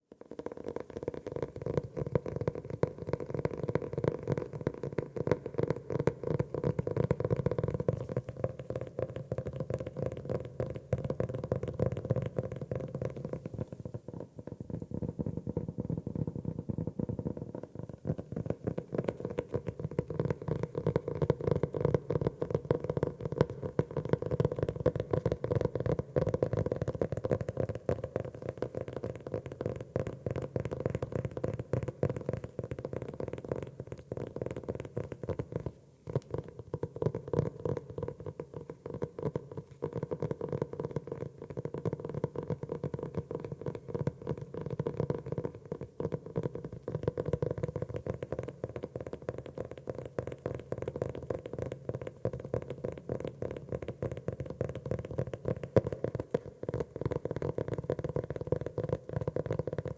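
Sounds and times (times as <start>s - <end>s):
fingers tapping on notebook: 0.2s - 59.9s.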